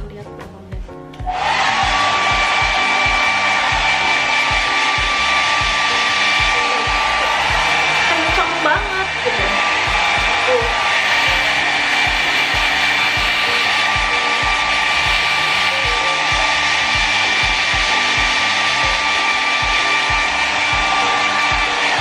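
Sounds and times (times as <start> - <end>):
background music with beat: 0.0 - 22.0
hair dryer blowing: 1.2 - 22.0.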